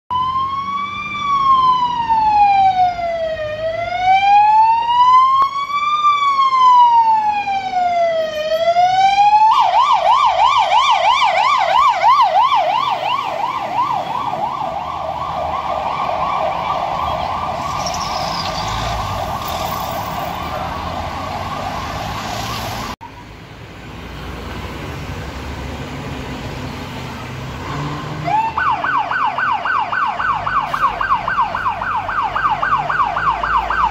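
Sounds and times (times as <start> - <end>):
fire engine siren: 0.1 - 23.0, 27.8 - 33.9
road and engine noise: 0.1 - 33.9.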